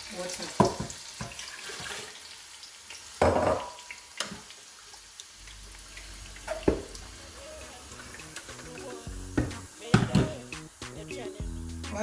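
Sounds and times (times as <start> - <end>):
water pouring: 0.2 - 10.7.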